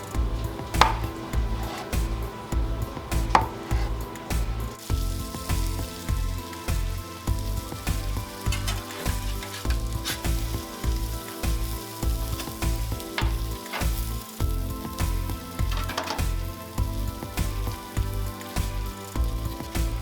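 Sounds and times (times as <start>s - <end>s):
background music with low beat: 0.0s - 20.0s
food sizzling on a griddle: 0.0s - 20.0s.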